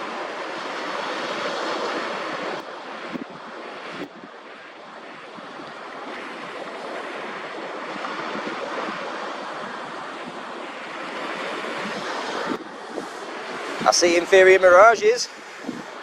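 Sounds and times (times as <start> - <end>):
sea waves washing ashore: 0.0 - 16.0
wind on microphone: 0.0 - 16.0.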